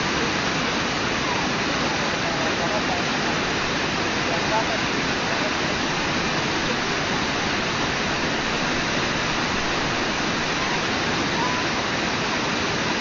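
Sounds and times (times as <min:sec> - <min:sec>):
whitewater rushing over rocks: 0:00.0 - 0:13.0.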